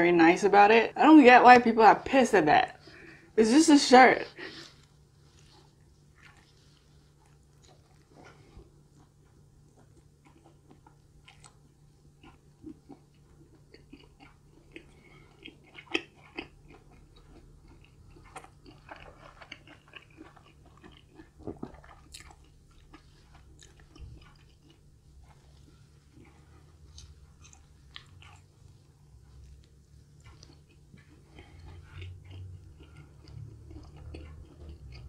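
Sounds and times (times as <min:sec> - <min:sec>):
person chewing pizza: 0:04.4 - 0:35.0.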